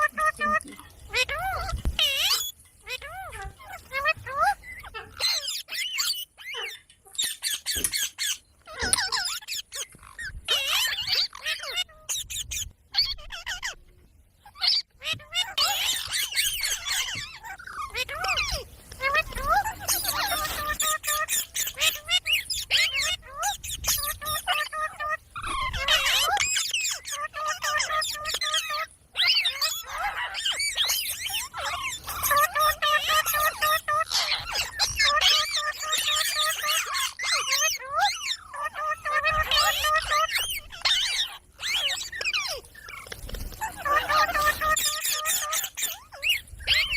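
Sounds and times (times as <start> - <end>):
parrot chattering: 0.0 - 13.8, 14.5 - 46.9.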